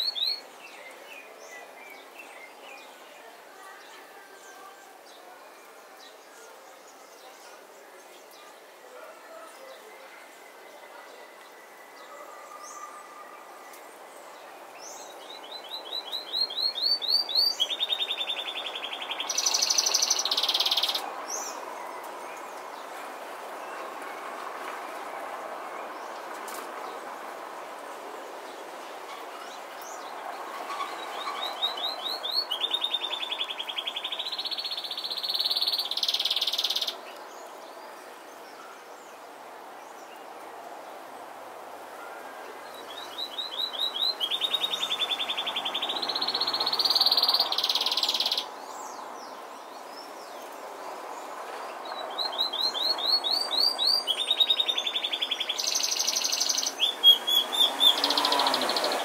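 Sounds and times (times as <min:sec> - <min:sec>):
songbird singing: 0:00.0 - 0:41.3, 0:42.0 - 0:59.0.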